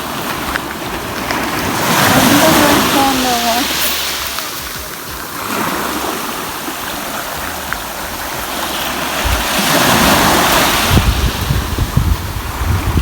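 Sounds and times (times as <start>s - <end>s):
waves washing onto beach: 0.0s - 13.0s
wind buffeting microphone: 0.0s - 13.0s.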